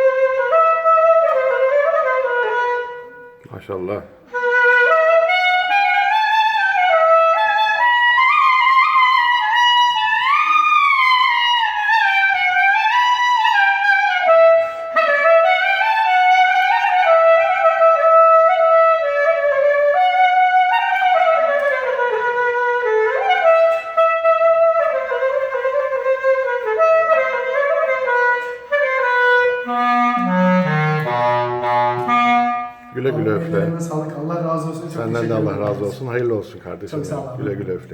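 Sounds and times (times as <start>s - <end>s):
reed wind instrument solo melody: 0.0s - 3.4s, 4.2s - 35.9s.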